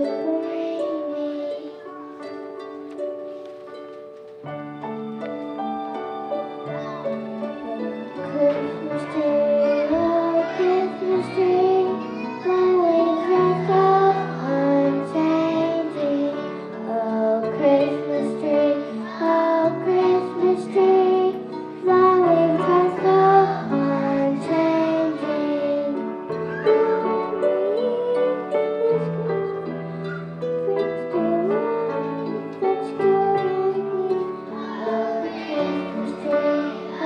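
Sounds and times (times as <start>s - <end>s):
children singing together: 0.0s - 2.2s, 6.5s - 37.0s
instrumental accompaniment: 0.0s - 37.0s.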